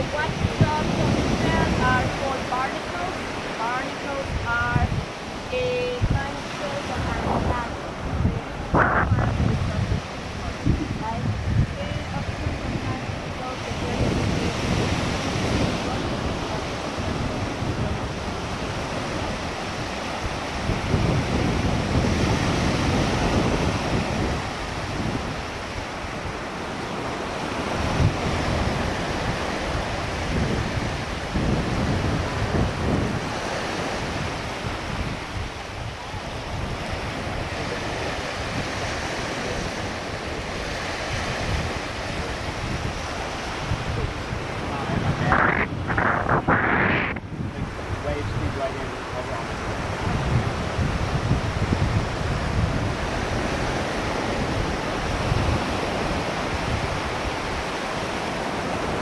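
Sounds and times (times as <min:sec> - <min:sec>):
ocean surf washing: 0:00.0 - 0:59.0
wind buffeting microphone: 0:00.0 - 0:59.0.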